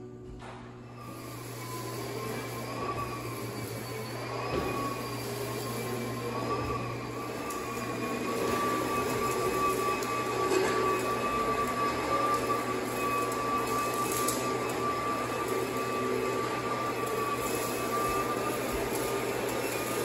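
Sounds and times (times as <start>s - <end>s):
thin wavering whine: 0.0s - 20.0s
motor humming: 0.2s - 20.0s.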